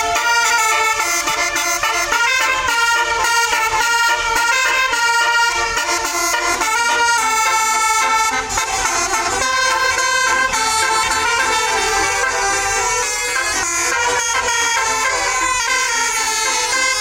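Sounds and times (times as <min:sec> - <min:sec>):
musical air horns playing melody: 0:00.0 - 0:17.0.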